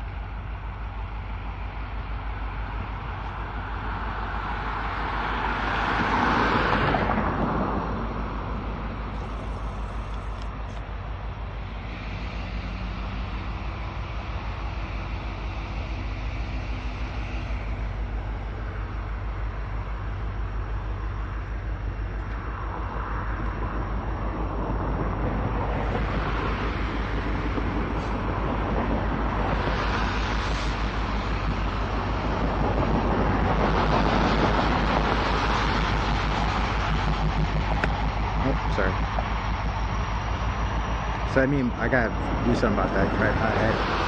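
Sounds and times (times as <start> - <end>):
diesel locomotive engine throb: 0.0 - 44.0
train wheel and rail noise: 0.0 - 44.0.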